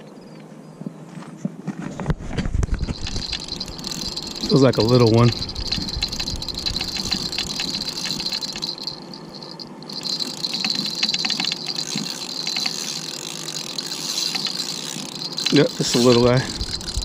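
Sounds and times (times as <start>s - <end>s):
fishing reel whirring and clicking: 2.7s - 17.0s.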